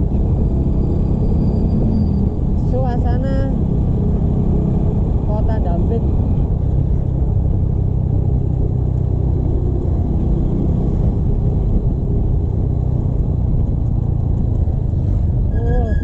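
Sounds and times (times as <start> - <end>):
motorcycle engine rumble: 0.0 - 16.0
road noise: 0.0 - 16.0.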